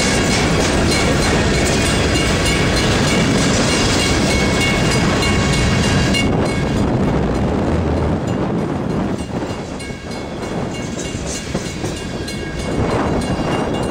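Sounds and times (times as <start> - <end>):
freight train wheels clacking: 0.0 - 13.9
wind buffeting microphone: 0.0 - 13.9.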